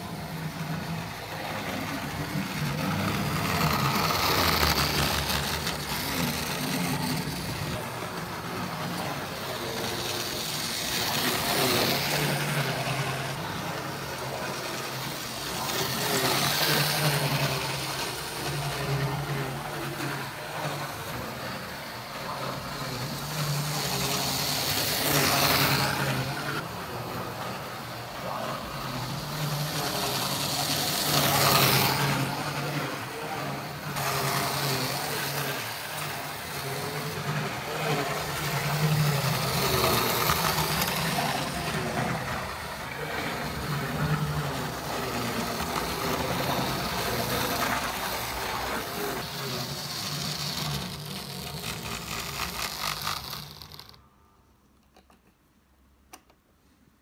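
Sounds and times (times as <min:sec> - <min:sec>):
model train motor humming: 0:00.0 - 0:54.0.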